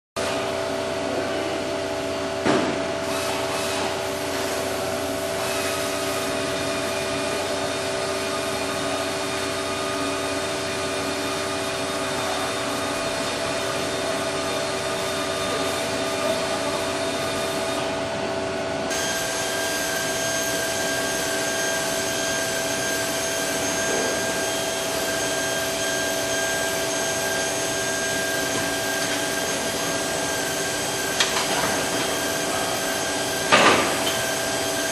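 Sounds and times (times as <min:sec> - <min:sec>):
machine whine: 0:01.1 - 0:34.9
grinding machine motor hum: 0:03.0 - 0:34.9.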